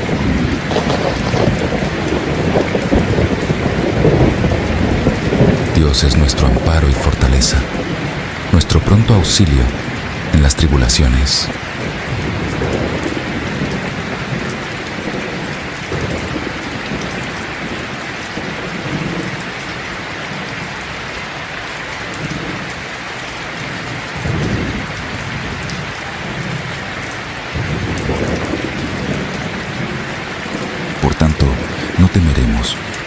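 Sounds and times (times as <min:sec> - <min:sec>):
thunder rumbling: 0:00.0 - 0:10.4, 0:11.5 - 0:19.6, 0:23.8 - 0:33.0
heavy rain falling: 0:00.0 - 0:33.0.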